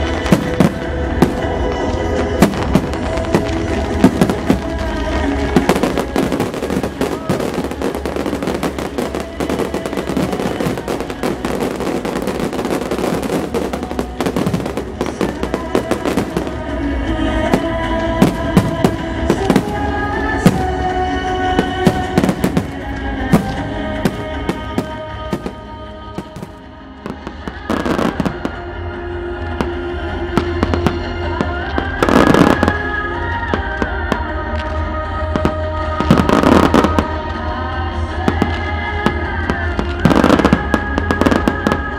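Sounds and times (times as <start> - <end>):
fireworks bangs and crackle: 0.0 - 41.9
music with held tones: 0.0 - 41.9.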